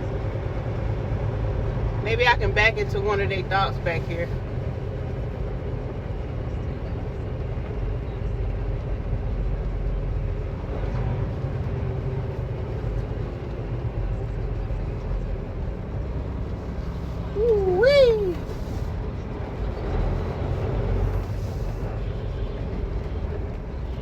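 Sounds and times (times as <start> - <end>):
truck diesel engine droning: 0.0 - 24.0.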